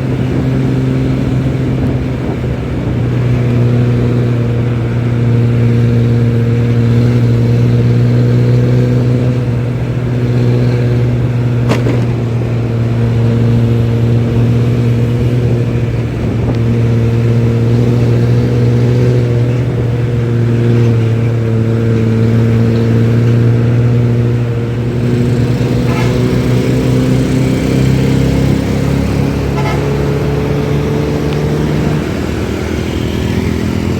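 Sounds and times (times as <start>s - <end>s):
diesel engine growling: 0.0s - 33.9s.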